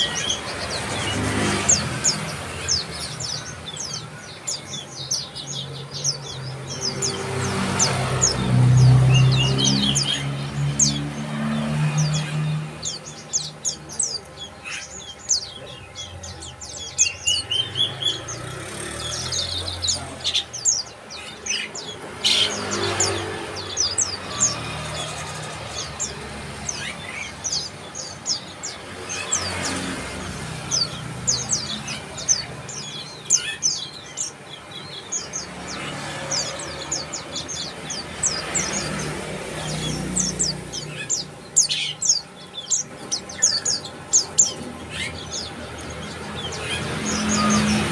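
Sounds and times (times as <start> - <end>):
bird chirping rapidly: 0.0 - 47.9.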